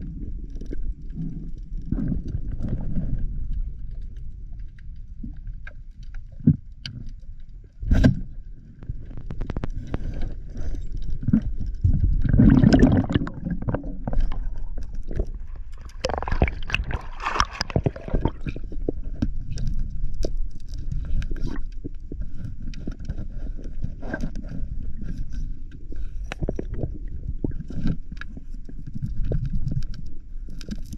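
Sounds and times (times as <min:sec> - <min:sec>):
underwater rumble of moving water: 0:00.0 - 0:30.9
underwater clicks and knocks: 0:00.5 - 0:30.9.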